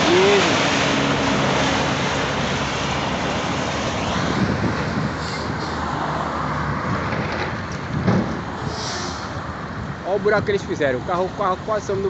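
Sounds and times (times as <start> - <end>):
heavy vehicle engines humming: 0.0 - 12.0
road traffic rushing: 0.0 - 12.0.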